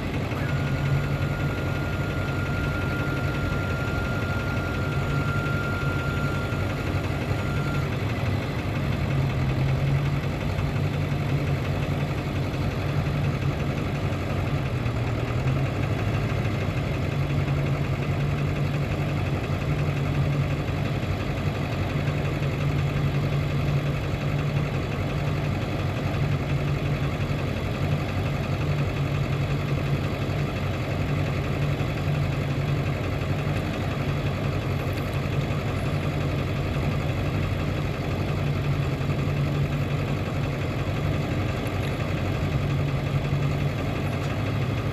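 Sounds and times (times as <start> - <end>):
truck engine idling: 0.0 - 44.9.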